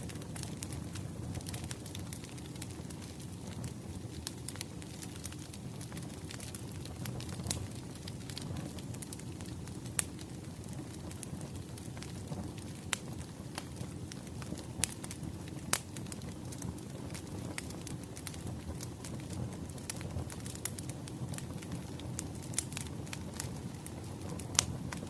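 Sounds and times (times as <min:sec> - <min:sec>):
burning logs rumbling: 0:00.0 - 0:25.0
fire pops and snaps: 0:00.0 - 0:25.0.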